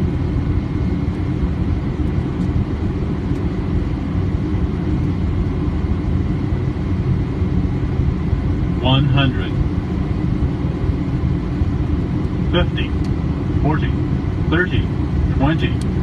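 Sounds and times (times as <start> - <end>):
cockpit airflow and engine noise: 0.0 - 16.0.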